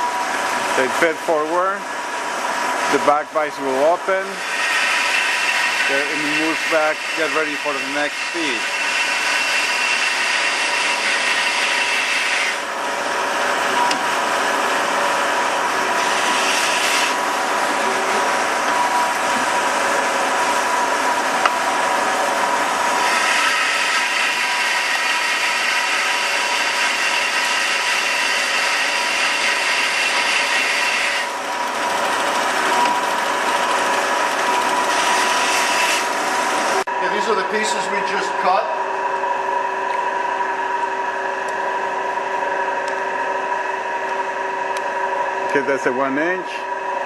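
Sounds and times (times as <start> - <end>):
band saw cutting metal: 0.0 - 38.7.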